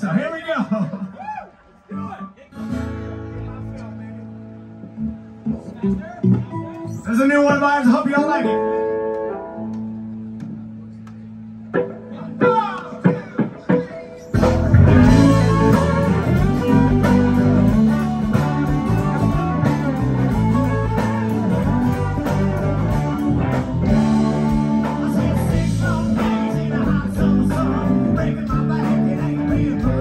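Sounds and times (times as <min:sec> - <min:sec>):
country-rock band playing: 0:01.6 - 0:30.0.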